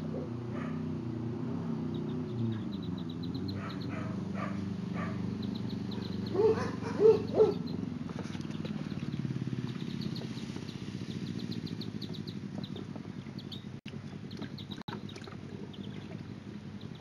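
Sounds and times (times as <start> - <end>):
ducklings peeping: 1.9 - 17.0.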